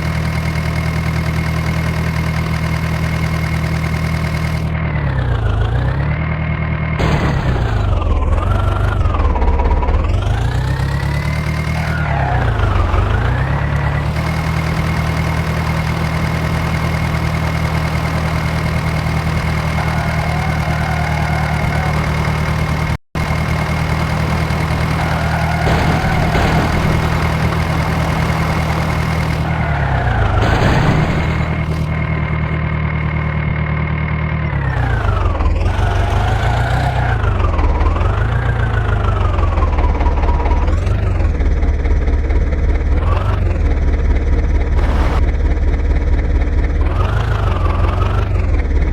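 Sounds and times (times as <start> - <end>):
tractor engine revving: 0.0 - 48.9.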